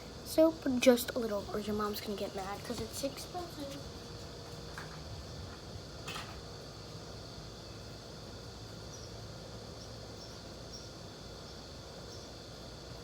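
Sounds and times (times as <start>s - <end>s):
insects humming: 0.0s - 13.0s
low background noise: 0.0s - 13.0s.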